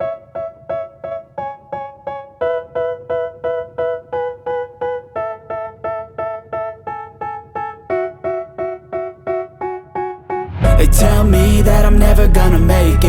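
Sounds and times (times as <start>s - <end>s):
electric piano repeated chords: 0.0s - 13.0s.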